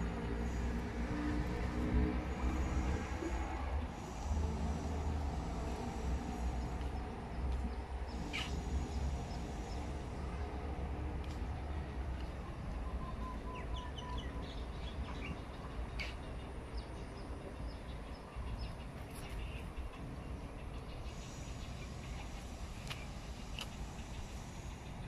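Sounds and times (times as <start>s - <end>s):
birds chirping: 0.0s - 10.7s, 11.5s - 25.0s
low outdoor rumble: 0.0s - 25.0s.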